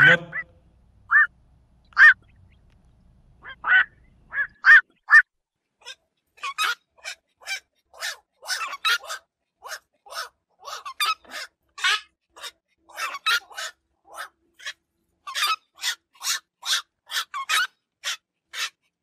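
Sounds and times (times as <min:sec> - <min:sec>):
herons calling: 0:01.1 - 0:02.7, 0:03.4 - 0:18.7.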